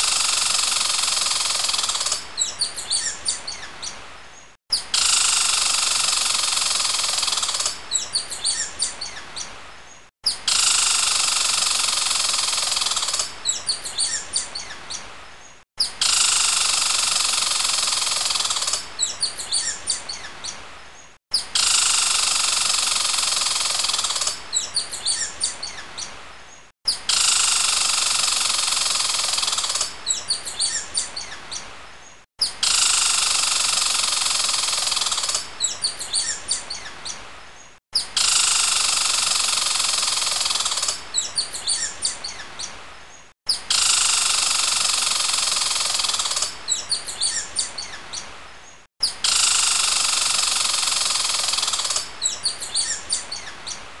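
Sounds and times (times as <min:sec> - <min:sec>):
small birds chirping chorus: 0:00.0 - 0:54.0.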